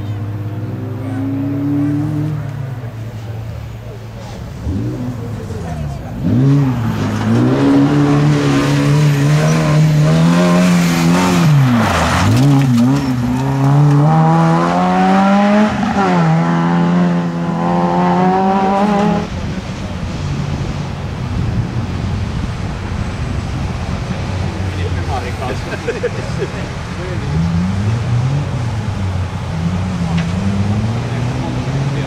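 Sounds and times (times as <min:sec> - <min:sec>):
rally car engine pulling hard: 0:00.0 - 0:32.0.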